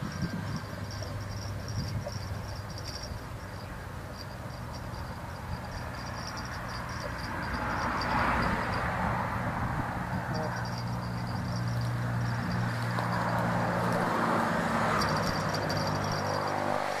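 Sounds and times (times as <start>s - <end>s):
insects chirping: 0.0s - 17.0s
low steady hum: 0.0s - 17.0s.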